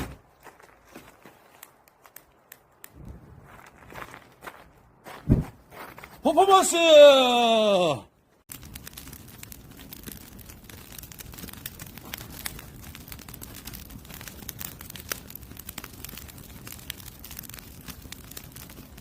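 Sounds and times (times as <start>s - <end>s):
campfire crackling and popping: 0.0s - 4.6s, 6.3s - 19.0s.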